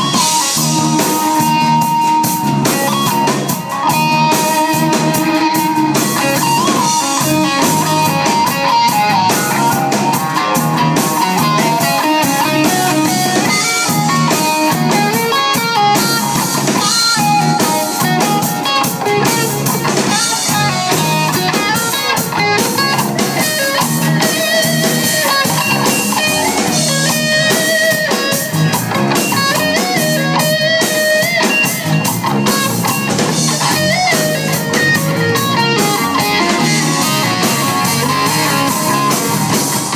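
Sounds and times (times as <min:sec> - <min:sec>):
electric guitar lead with bent notes: 0:00.0 - 0:39.9
rock band playing: 0:00.0 - 0:39.9.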